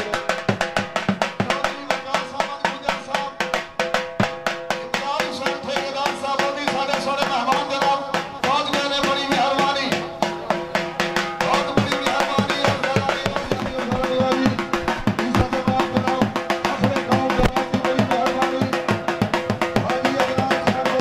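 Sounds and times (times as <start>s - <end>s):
dhol drum beaten rapidly: 0.0s - 21.0s.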